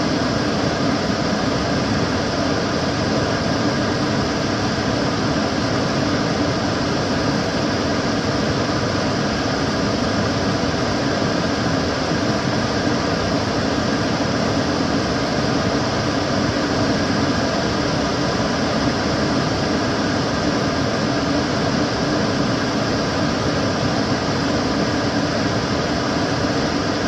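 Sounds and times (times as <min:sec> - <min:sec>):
extractor fan running: 0:00.0 - 0:27.0.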